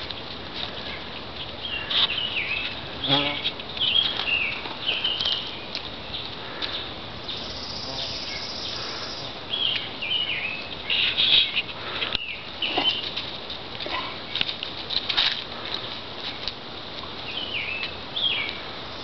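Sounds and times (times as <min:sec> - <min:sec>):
steady high hiss: 0:00.0 - 0:13.2, 0:15.0 - 0:19.0
small birds chirping: 0:00.0 - 0:14.6, 0:15.5 - 0:19.0
dry leaves and twigs rustling: 0:00.0 - 0:19.0.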